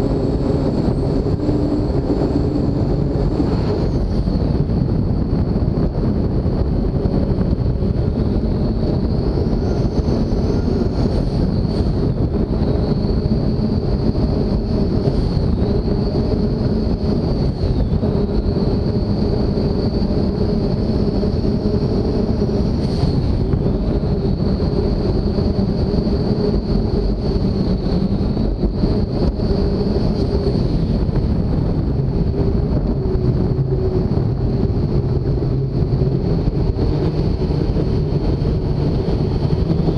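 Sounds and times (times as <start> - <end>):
wind noise on microphone: 0.0 - 39.9
thin high whine: 7.1 - 39.9.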